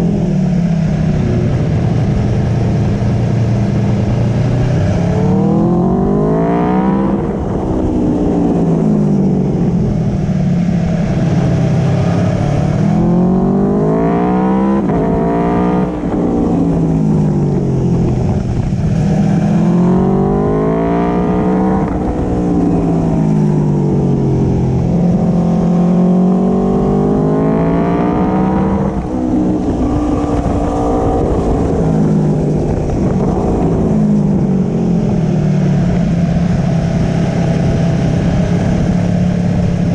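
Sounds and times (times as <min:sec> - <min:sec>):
motorcycle engine revving: 0:00.0 - 0:39.9
road rumble: 0:00.0 - 0:39.9
wind noise: 0:00.0 - 0:39.9.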